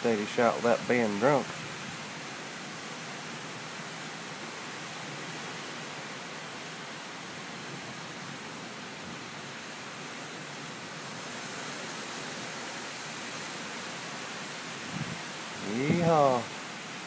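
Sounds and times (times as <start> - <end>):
gusting wind: 0.0 - 17.0
rain: 0.0 - 17.0.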